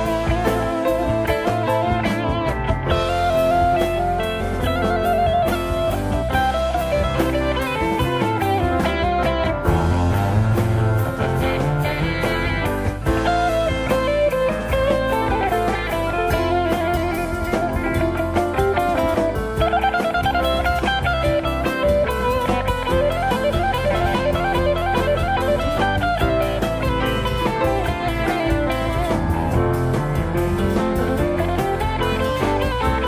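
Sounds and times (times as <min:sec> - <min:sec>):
drum kit steady beat: 0:00.0 - 0:33.0
guitar melody: 0:00.0 - 0:33.0.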